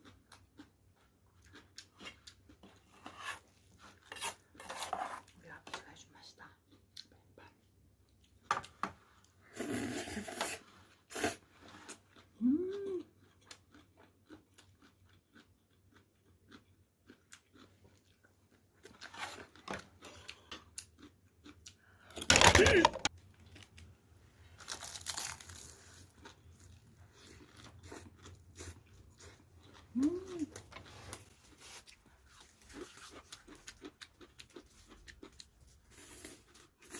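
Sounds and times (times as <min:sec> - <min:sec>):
chewing and crunching: 0:00.0 - 0:04.6, 0:10.7 - 0:22.2, 0:23.1 - 0:36.9.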